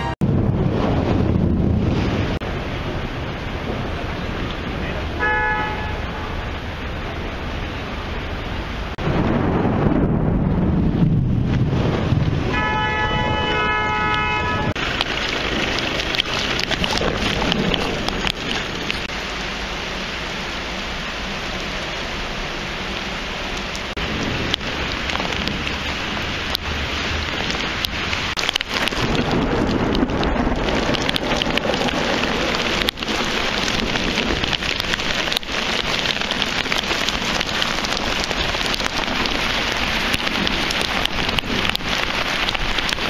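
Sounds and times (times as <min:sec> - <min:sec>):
heavy rain on pavement: 0:00.0 - 0:43.0.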